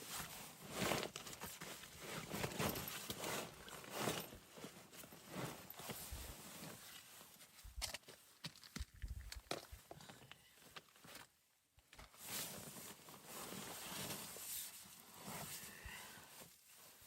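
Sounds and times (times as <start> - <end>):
crunches and rustles: 0.0 - 17.0.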